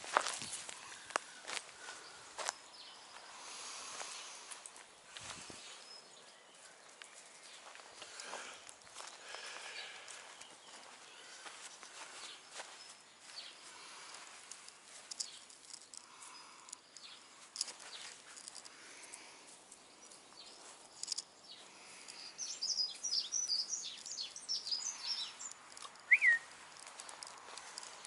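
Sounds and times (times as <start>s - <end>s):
birds chirping: 0.0s - 28.0s
light ticks and rustles: 0.0s - 28.0s.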